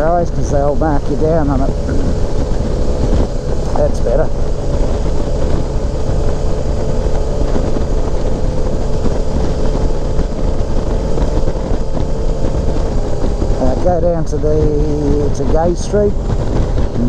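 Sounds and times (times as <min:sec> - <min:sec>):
motorcycle engine running: 0:00.0 - 0:17.0
wind rumbling on microphone: 0:00.0 - 0:17.0.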